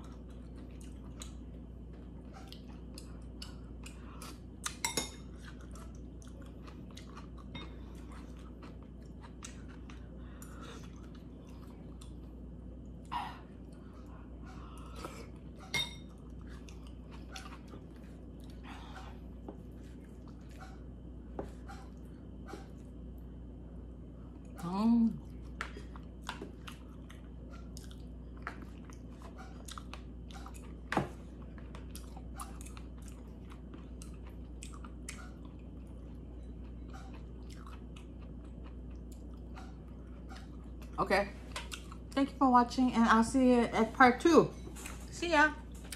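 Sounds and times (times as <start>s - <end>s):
person chewing noodles: 0.0s - 23.3s, 25.2s - 42.2s.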